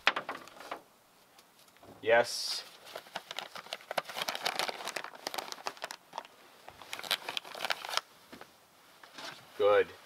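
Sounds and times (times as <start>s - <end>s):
dry crackling and rustling: 0.0s - 9.5s.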